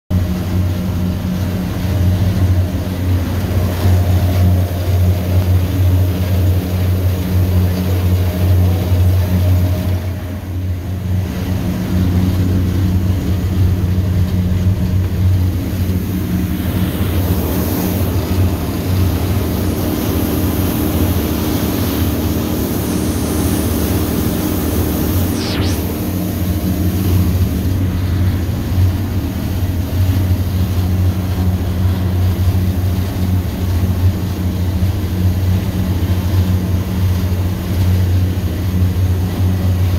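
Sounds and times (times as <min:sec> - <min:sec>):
boat engine drone: 0:00.1 - 0:39.9
rushing water: 0:00.1 - 0:39.9
wind: 0:00.1 - 0:39.9.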